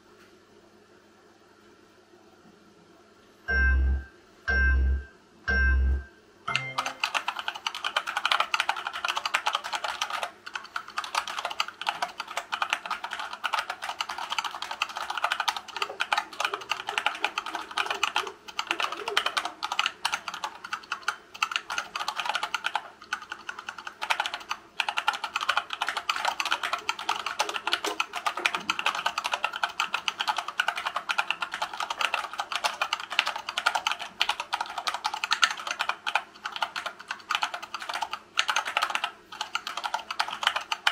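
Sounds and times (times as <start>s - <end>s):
fast keyboard typing: 6.5s - 40.9s.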